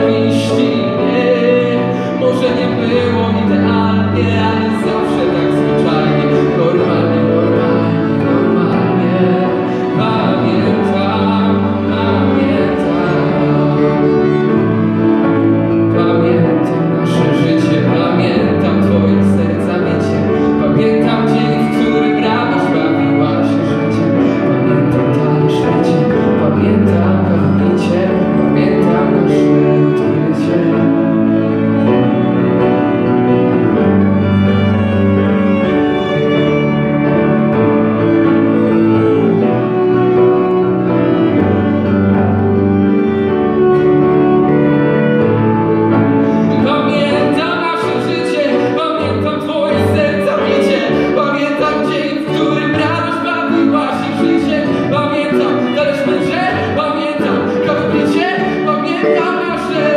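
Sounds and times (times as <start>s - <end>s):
small band playing slow song: 0.0s - 59.9s.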